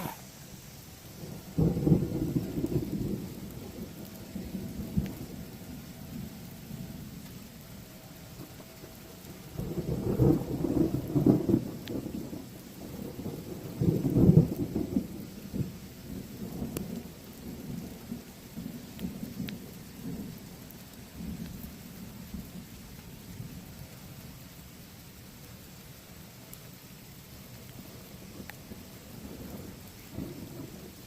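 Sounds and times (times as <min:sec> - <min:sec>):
thunder rumbling: 0:00.0 - 0:23.8, 0:27.7 - 0:31.0.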